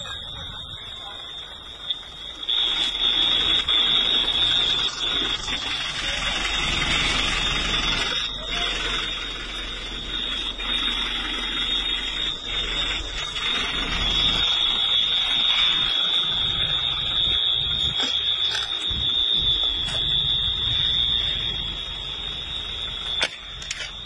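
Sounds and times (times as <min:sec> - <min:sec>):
high-pitched electronic alarm tone: 0:00.0 - 0:24.0.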